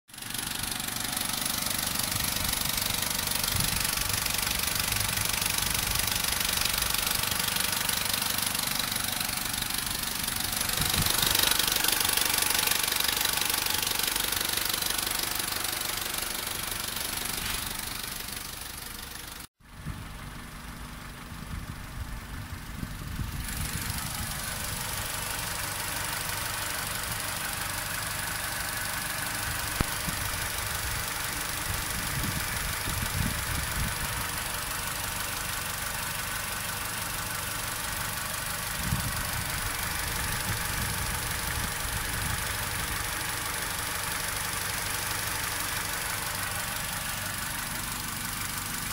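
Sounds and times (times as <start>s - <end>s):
car engine idling: 0.1s - 48.9s.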